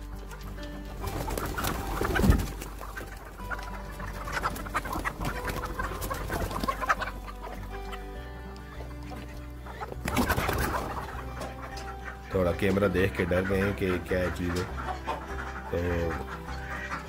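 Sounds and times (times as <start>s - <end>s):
background music: 0.0s - 17.0s
chickens clucking: 0.0s - 17.0s.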